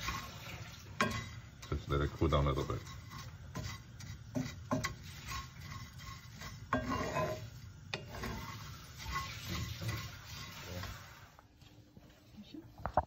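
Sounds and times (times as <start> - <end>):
wooden spatula scraping peppercorns: 0.0 - 11.3.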